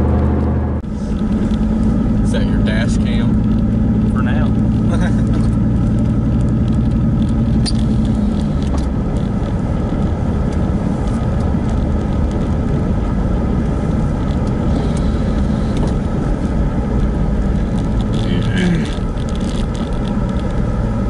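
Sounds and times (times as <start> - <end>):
engine and road rumble: 0.0 - 21.0
engine hum: 0.0 - 21.0.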